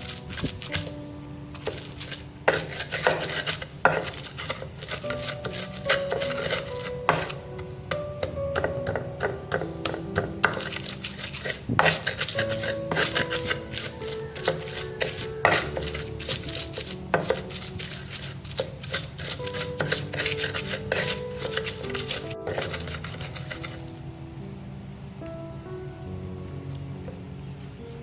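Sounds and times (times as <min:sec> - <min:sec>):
soft background music: 0:00.0 - 0:28.0.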